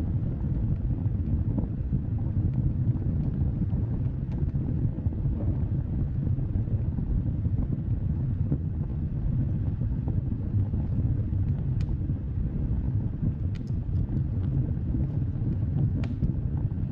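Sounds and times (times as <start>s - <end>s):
fire roaring: 0.0s - 16.9s
faint crackles: 0.1s - 16.9s.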